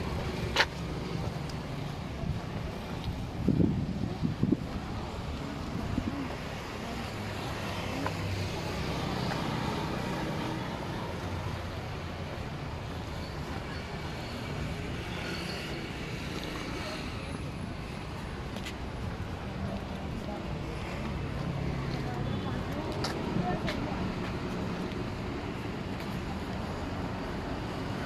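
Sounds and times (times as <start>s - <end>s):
vehicle engines passing: 0.0s - 28.0s.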